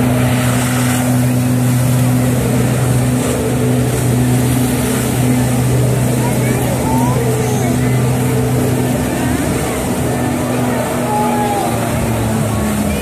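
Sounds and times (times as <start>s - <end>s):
water jets spraying: 0.0s - 13.0s
watercraft engine drone: 0.0s - 13.0s.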